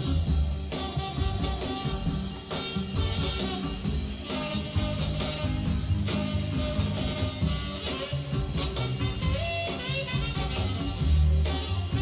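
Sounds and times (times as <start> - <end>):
guitar and drum music: 0.0 - 12.0.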